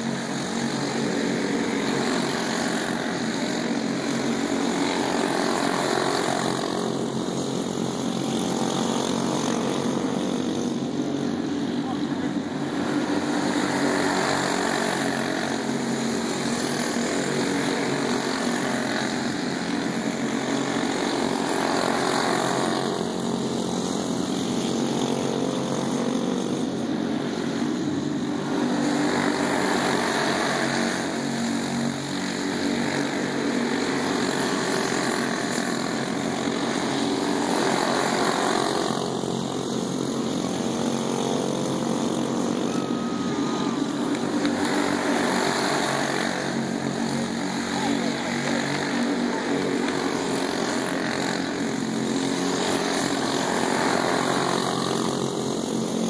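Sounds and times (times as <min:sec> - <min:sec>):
go-kart engines buzzing: 0:00.0 - 0:56.0.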